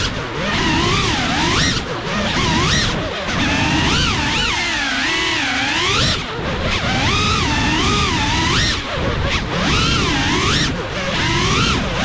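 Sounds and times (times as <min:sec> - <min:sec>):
drone motors whining: 0:00.0 - 0:12.0
rush of wind: 0:00.0 - 0:12.0.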